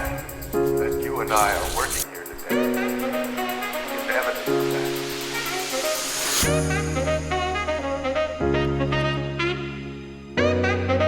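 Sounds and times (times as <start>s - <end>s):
jazz instrumental music: 0.0s - 11.0s.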